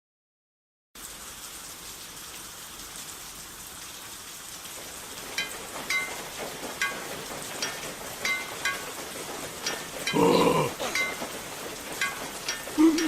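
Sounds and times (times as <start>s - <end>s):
steady rain falling: 1.0s - 13.0s.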